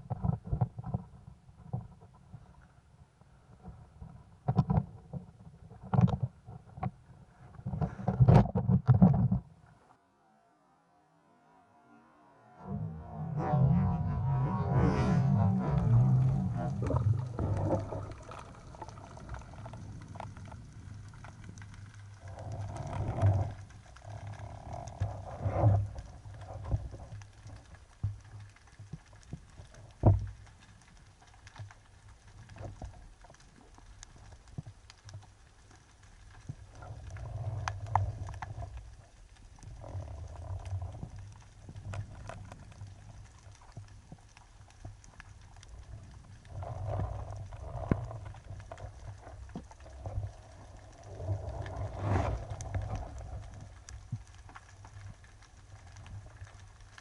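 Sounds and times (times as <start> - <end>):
underwater water movement: 0.0 - 10.0, 12.0 - 57.0.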